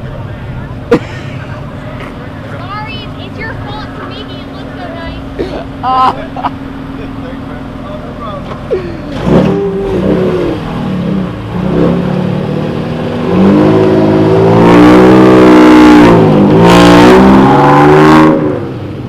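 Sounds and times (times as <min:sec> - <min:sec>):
car engine revving hard: 0:02.6 - 0:19.0.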